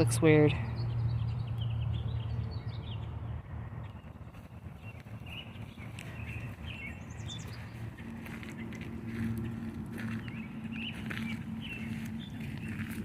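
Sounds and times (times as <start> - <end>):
small birds chirping: 0.0 - 13.0
low rumble: 0.6 - 13.0.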